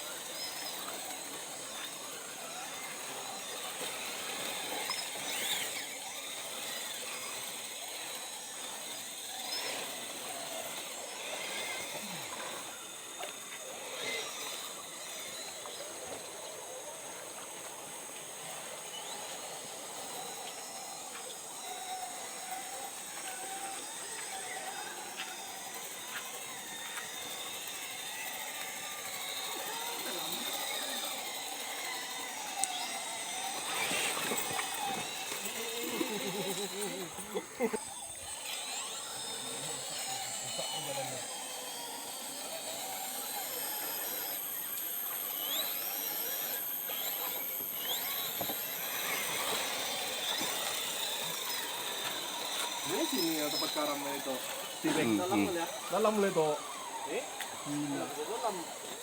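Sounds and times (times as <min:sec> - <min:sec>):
small electric motor whining: 0:00.0 - 0:59.0.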